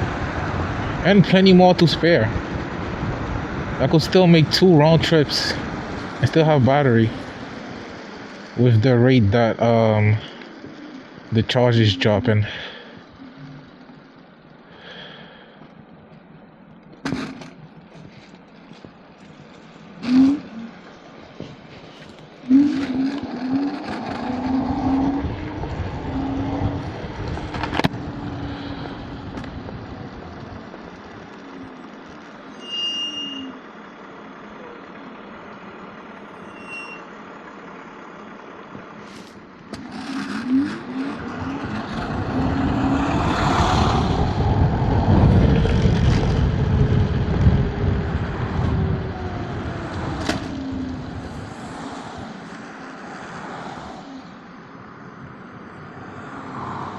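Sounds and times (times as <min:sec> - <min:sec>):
vehicles passing: 0:00.0 - 0:56.9.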